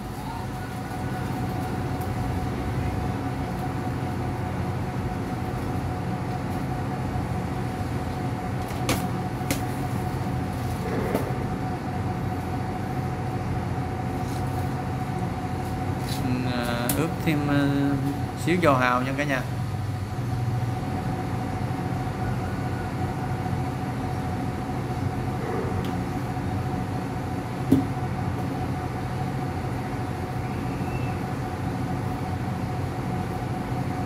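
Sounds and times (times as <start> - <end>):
machine hum with whine: 0.0 - 34.0.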